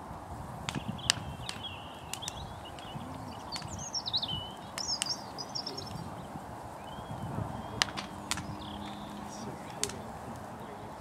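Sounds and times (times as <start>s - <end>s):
fire crackling and popping: 0.0s - 11.0s
small bird singing: 0.7s - 11.0s.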